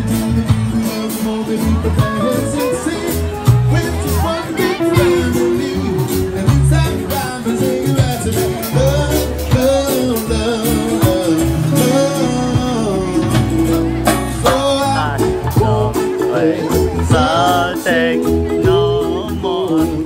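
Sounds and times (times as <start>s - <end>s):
person singing: 0.0s - 20.0s
plucked guitar: 0.0s - 20.0s
steady beat: 0.0s - 20.0s.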